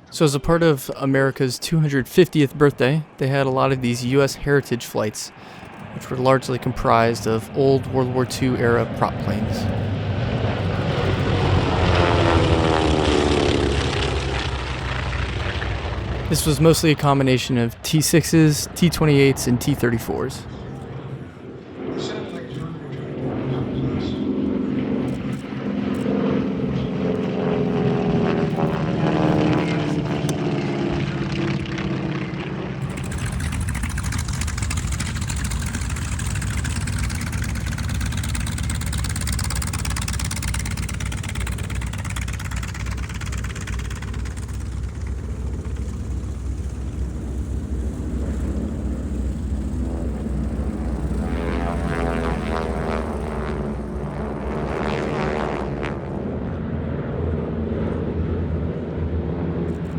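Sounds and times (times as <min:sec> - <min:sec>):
propeller planes droning past: 0:00.0 - 0:59.9
low engine rumble: 0:05.6 - 0:59.9.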